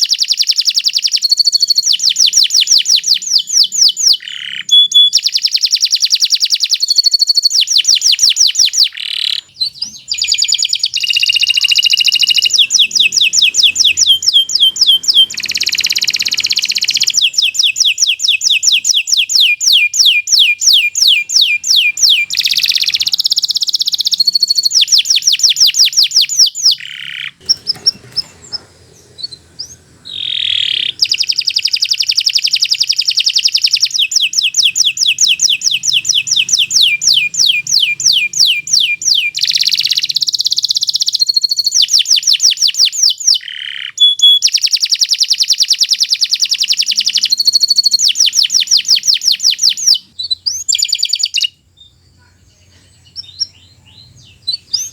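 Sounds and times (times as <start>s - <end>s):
canary singing rapid trills: 0.0s - 54.9s.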